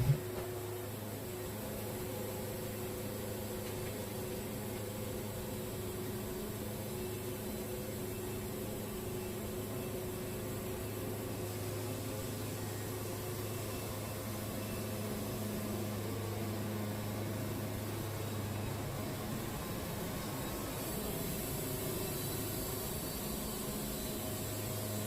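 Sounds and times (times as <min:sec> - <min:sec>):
sawmill humming: 0:00.0 - 0:25.0.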